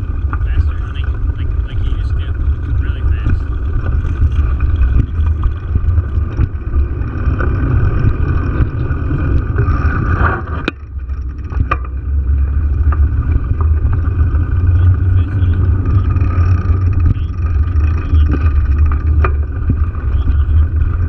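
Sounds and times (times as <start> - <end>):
bike clicks and rattles: 0.0 - 21.0
tyre noise over asphalt: 0.0 - 21.0
wind rumble on microphone: 0.0 - 21.0.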